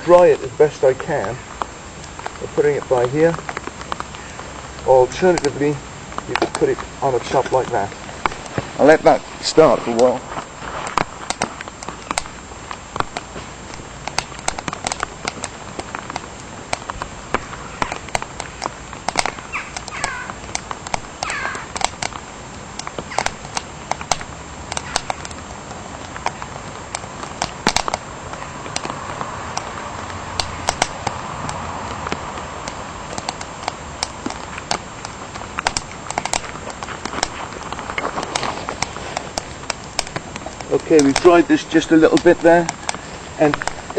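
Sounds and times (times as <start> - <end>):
steady hiss: 0.0 - 43.9
wood fire crackling in stove: 0.0 - 43.9.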